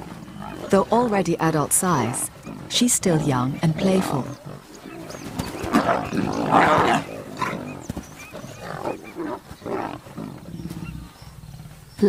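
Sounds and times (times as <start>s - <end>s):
lions growling: 0.0s - 12.0s.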